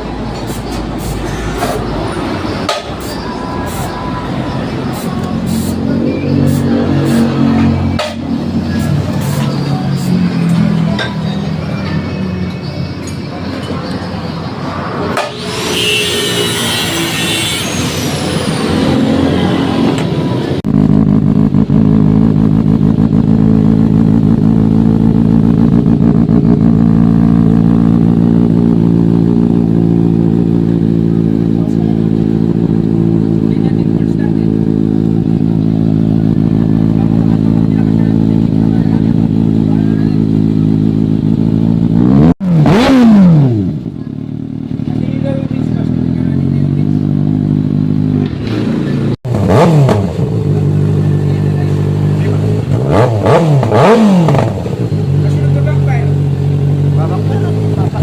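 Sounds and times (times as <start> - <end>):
motorcycle engine idling and revving: 0.0 - 58.0
workshop noise: 0.0 - 58.0.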